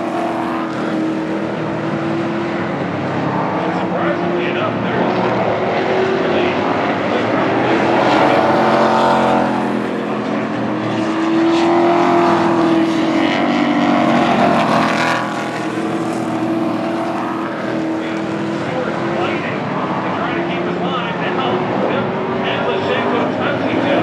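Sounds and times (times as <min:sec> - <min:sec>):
race truck engines passing: 0:00.0 - 0:24.0.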